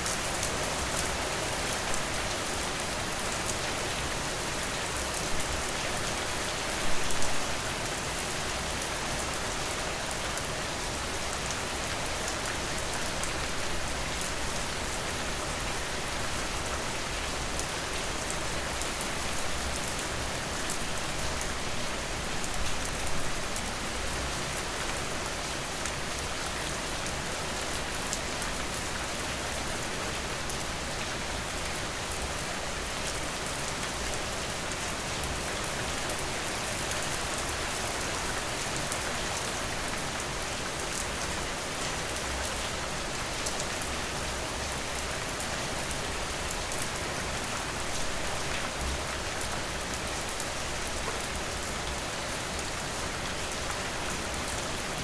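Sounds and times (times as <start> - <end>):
rain falling on a porch: 0.0 - 55.0.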